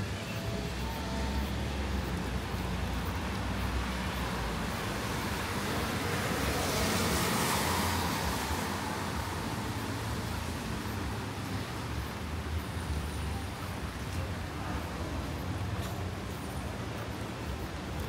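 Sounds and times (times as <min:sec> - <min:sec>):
tyres hissing on wet road: 0:00.6 - 0:18.0.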